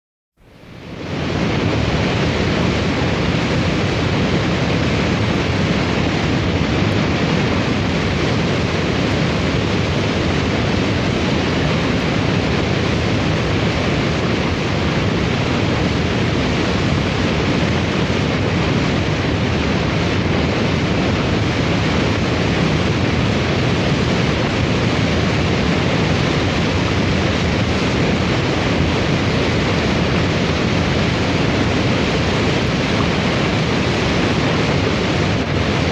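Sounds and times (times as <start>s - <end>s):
loud steady wind rush: 0.4s - 35.9s.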